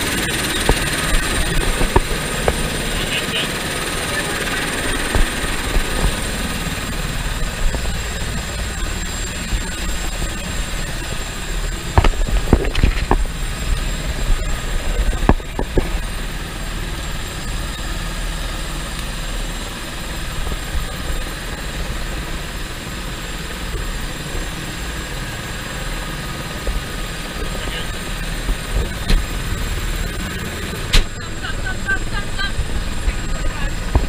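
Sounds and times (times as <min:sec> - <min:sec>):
helicopter rotor rumble and whine: 0:00.0 - 0:34.0.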